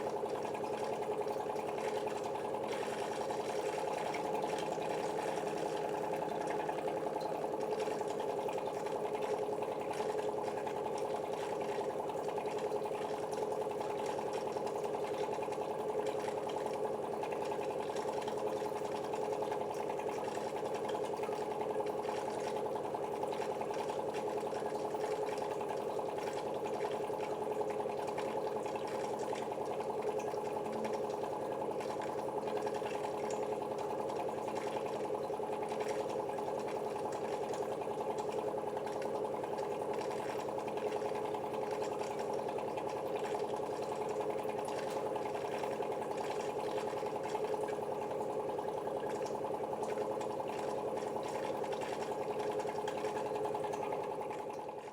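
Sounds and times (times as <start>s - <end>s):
pump motor hum: 0.0s - 54.9s
water flowing through filters: 0.0s - 54.9s.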